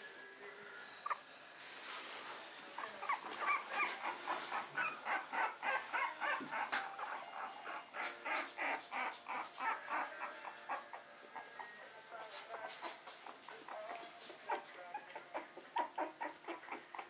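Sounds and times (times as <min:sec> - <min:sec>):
puppies whimpering and squeaking: 0:00.9 - 0:01.3, 0:02.6 - 0:17.0.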